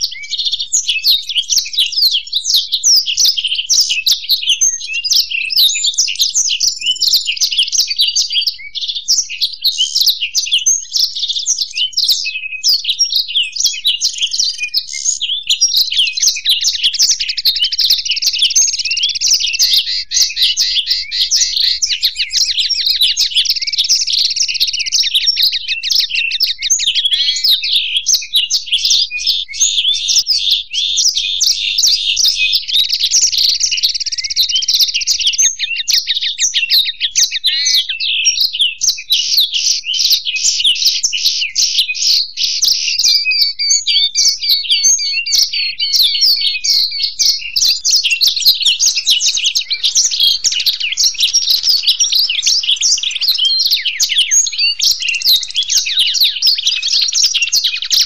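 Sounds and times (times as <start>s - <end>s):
birds singing fast twittering trills: 0.0s - 58.0s.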